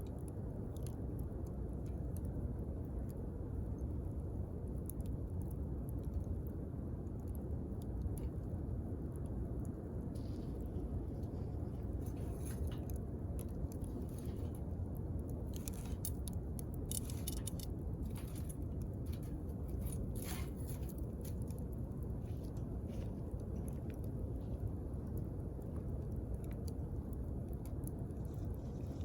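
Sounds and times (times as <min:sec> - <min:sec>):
fire crackles and pops: 0:00.0 - 0:29.0
fire low rush: 0:00.0 - 0:29.0.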